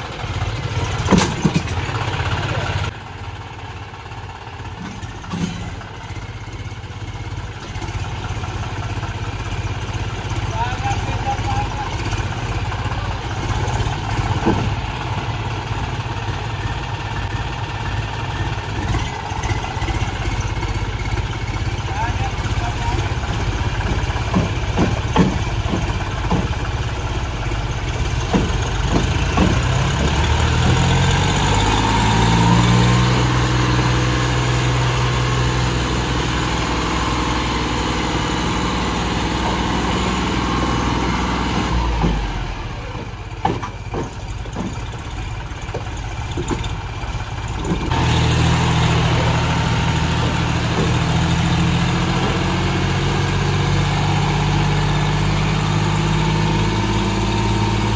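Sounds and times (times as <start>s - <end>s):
engine knocks: 0.0s - 56.0s
tractor diesel engine running: 0.0s - 57.9s.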